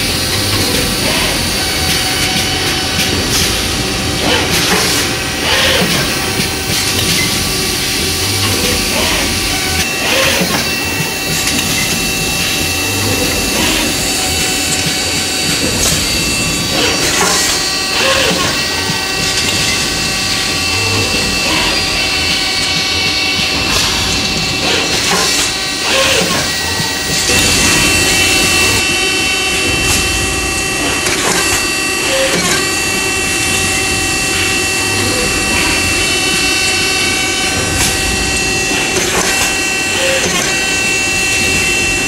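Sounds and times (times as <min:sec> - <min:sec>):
machine mechanical hum: 0:00.0 - 0:42.0.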